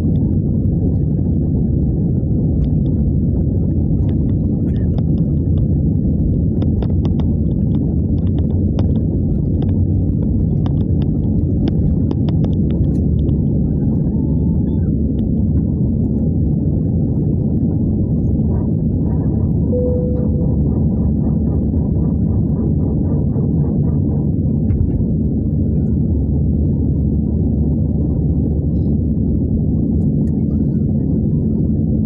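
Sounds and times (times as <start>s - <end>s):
jet engine cabin rumble: 0.0s - 32.0s.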